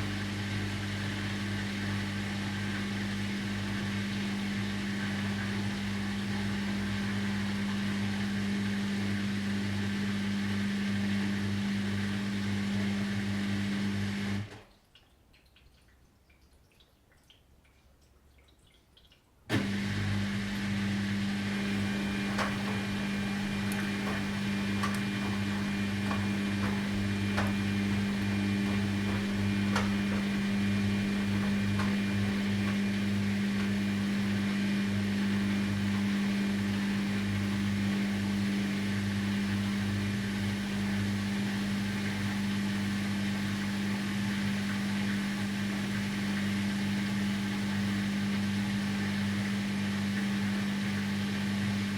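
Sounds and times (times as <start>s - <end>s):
washing machine humming: 0.0s - 14.8s, 19.5s - 51.9s.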